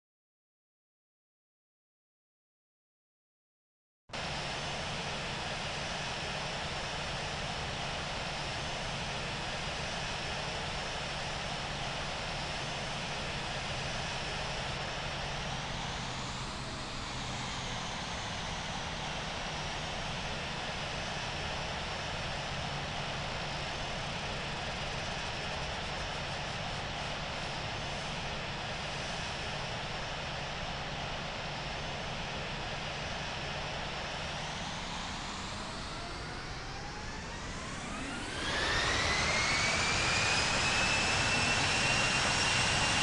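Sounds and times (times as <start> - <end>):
jet engines whining: 4.2 - 43.0.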